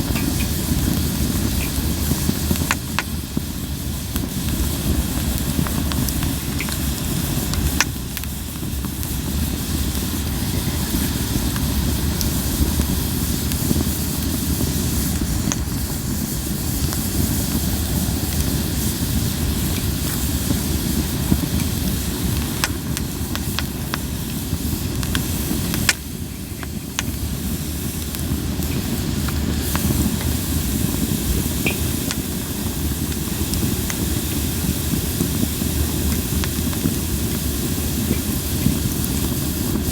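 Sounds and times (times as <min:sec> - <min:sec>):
campfire hiss and rumble: 0:00.0 - 0:39.9
fire crackles and pops: 0:00.0 - 0:39.9.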